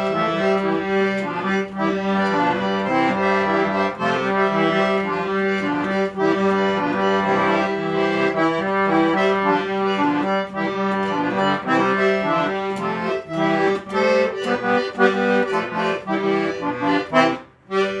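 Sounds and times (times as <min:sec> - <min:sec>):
accordion playing lively melody: 0:00.0 - 0:18.0.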